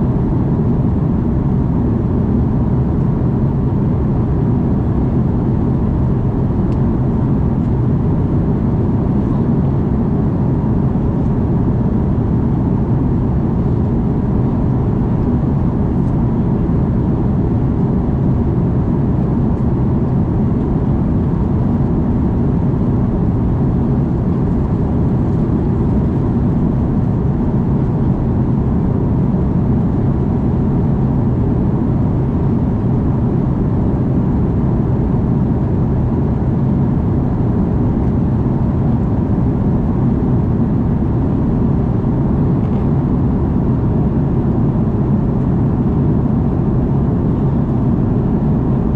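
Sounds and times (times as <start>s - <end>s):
airliner engines rumbling in cabin: 0.0s - 48.9s.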